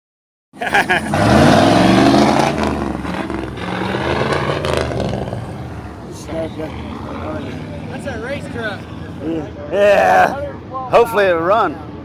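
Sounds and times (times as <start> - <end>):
truck engine revving: 0.7 - 10.4.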